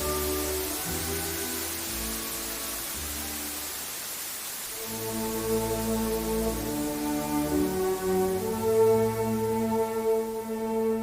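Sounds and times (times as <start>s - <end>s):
slow soft music: 0.0s - 11.0s
white noise hiss: 0.0s - 11.0s.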